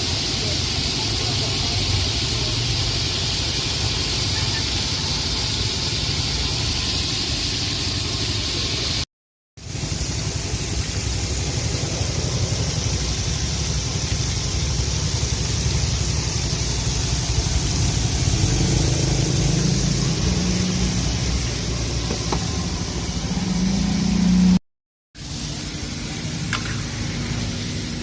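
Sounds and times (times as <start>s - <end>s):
engine running: 0.0s - 9.0s, 9.6s - 24.6s, 25.2s - 28.0s
even hiss: 0.0s - 9.0s, 9.6s - 24.6s, 25.2s - 28.0s.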